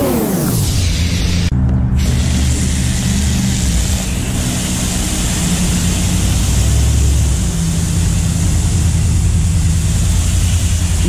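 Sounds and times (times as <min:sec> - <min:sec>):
hiss of spraying water: 0:00.0 - 0:11.0
low mechanical drone: 0:00.0 - 0:11.0.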